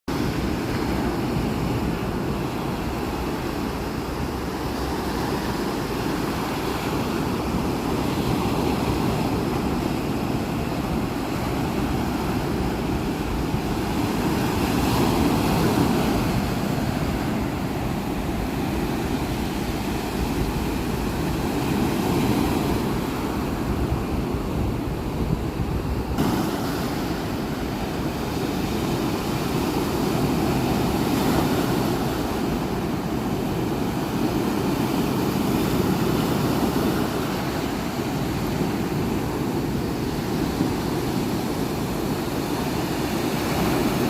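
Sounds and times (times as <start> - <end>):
sea waves washing onto shore: 0.1 - 44.0
wind rumbling on microphone: 0.1 - 44.0.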